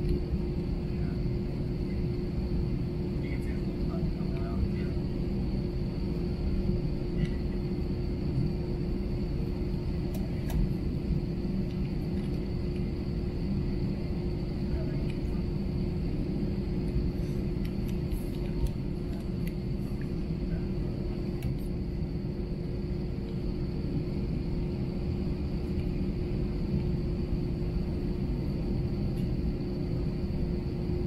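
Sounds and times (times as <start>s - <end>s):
jet engines low rumble: 0.0s - 31.0s.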